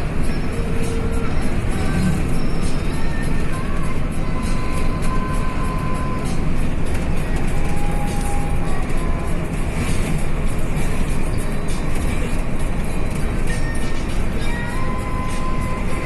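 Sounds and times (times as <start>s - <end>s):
diesel bus engine rumbling: 0.0s - 16.0s.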